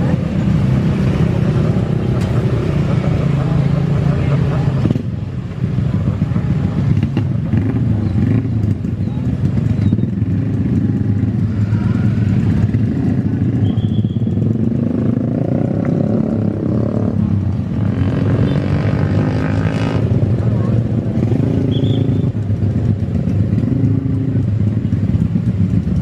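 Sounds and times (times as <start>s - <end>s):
loud engine rumble: 0.0s - 26.0s.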